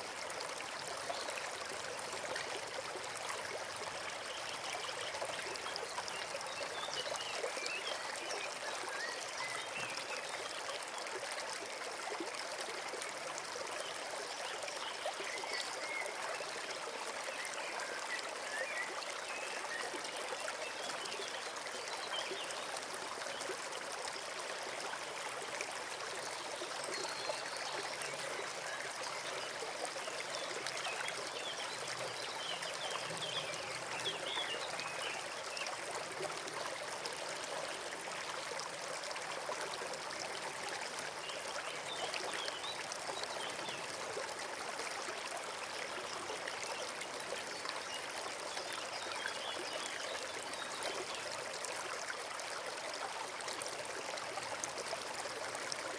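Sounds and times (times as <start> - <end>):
stream trickling over stones: 0.0 - 55.9.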